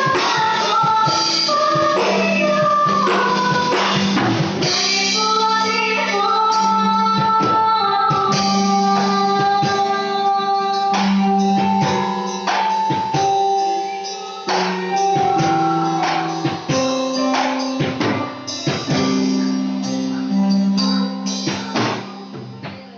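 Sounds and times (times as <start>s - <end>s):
drum kit: 0.0s - 22.9s
keyboard chords: 0.0s - 22.9s.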